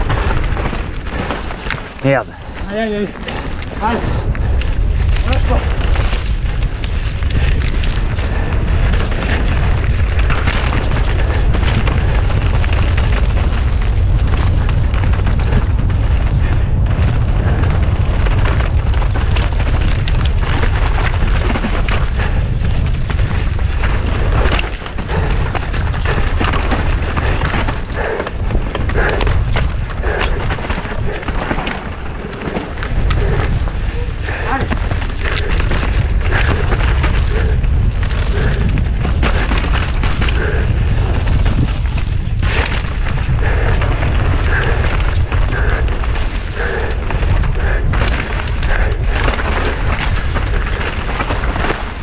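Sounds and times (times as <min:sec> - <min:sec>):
bike clattering on rocky ground: 0:00.0 - 0:52.0
wind buffeting microphone: 0:00.0 - 0:52.0.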